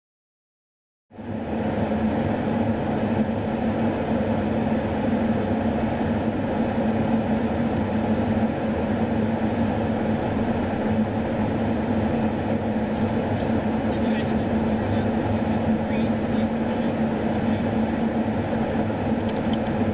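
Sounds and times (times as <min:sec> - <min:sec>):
aircraft engine drone: 0:01.1 - 0:19.9.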